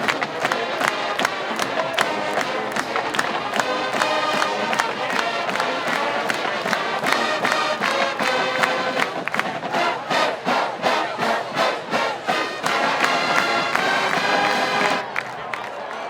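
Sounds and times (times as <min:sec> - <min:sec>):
steady drum beat: 0:00.0 - 0:15.0
marching band playing: 0:00.0 - 0:15.1
stadium crowd noise: 0:00.0 - 0:16.0.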